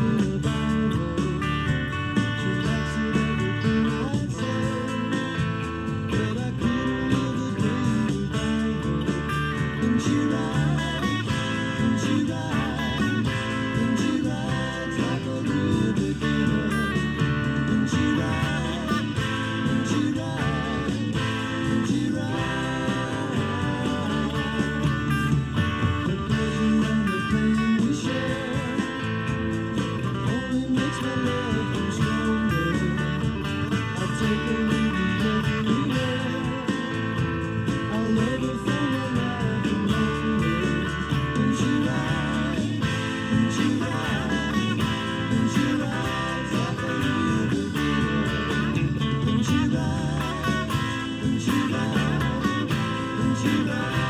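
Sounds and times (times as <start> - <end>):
blues-rock band playing: 0.0 - 54.0
lead electric guitar with bent notes: 0.0 - 54.0.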